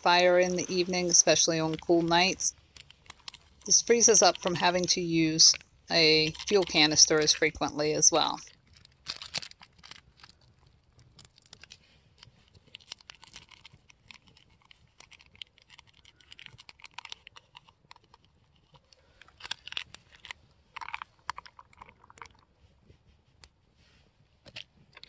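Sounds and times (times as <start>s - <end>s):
gear crinkling: 0.2s - 23.6s, 24.4s - 25.0s.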